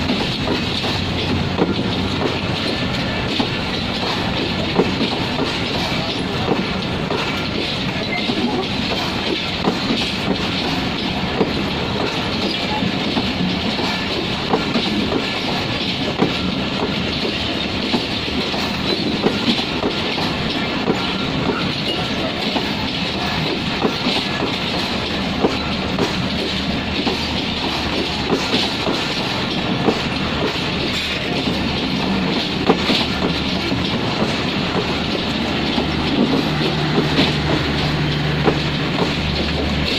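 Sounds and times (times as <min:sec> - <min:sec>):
train rumbling on rails: 0:00.0 - 0:39.9
wheels clacking over rail joints: 0:00.0 - 0:39.9.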